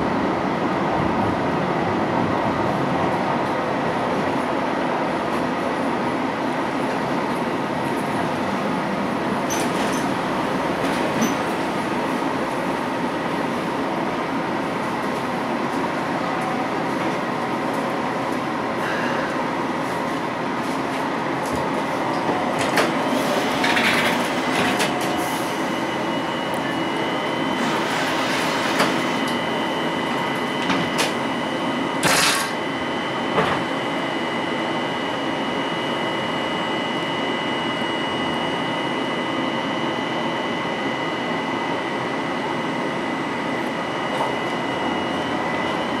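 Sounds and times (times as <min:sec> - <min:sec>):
train running hum: 0:00.0 - 0:46.0.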